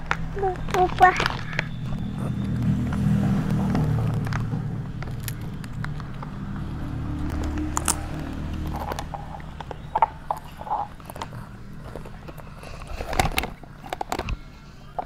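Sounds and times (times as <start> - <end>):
child chewing crunchy chips: 0.0 - 15.0
low steady hum: 0.0 - 15.0.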